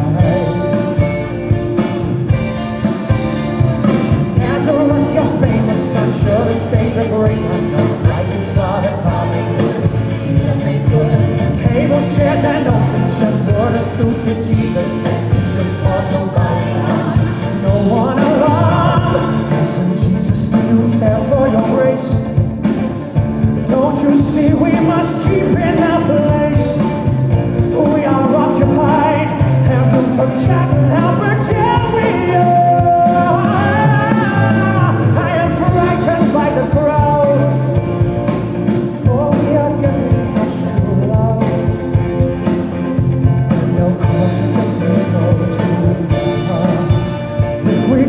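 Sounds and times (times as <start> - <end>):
man singing into microphone: 0.0 - 1.4, 4.3 - 22.4, 23.6 - 37.8, 38.9 - 41.9, 43.3 - 48.0
rock backing music: 0.0 - 48.0.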